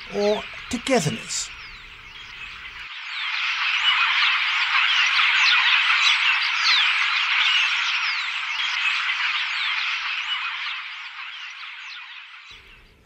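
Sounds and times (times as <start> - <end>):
starlings chattering: 0.0 - 13.0.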